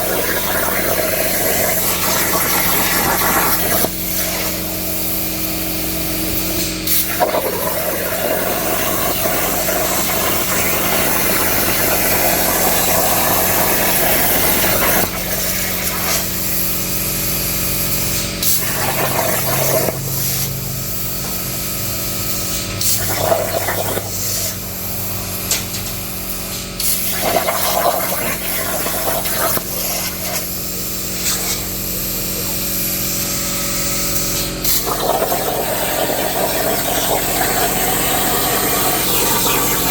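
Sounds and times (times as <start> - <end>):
plasma cutter hissing and buzzing: 0.0 - 39.9.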